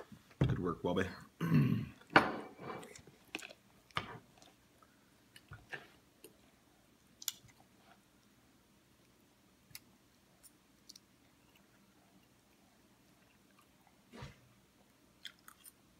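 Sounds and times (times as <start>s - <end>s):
soft chewing: 2.8s - 15.9s.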